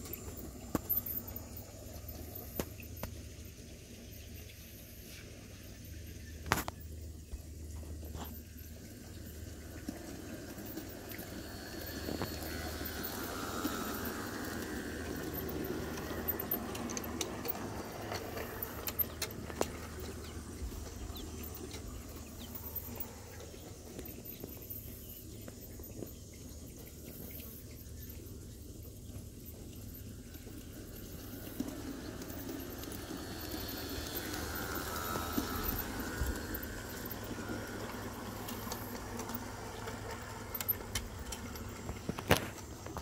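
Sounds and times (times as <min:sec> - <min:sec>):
model train rattling rumble: 0:00.0 - 0:43.0.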